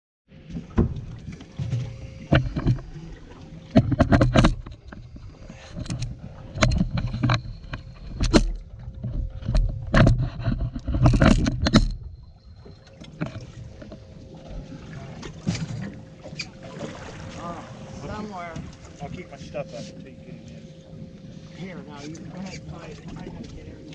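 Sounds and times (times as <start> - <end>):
faint steady hum: 0.3 - 23.9.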